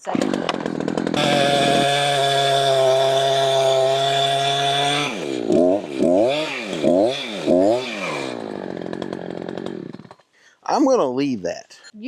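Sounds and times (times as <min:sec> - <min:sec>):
chainsaw engine revving: 0:00.0 - 0:10.3.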